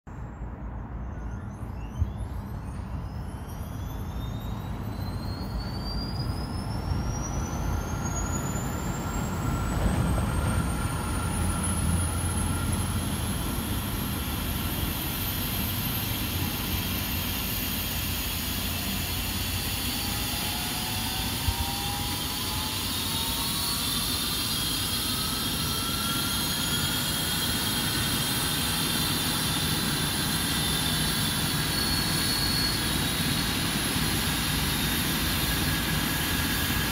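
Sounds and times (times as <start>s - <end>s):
second rising whine: 0.2s - 36.9s
helicopter turbine whine: 0.3s - 36.9s.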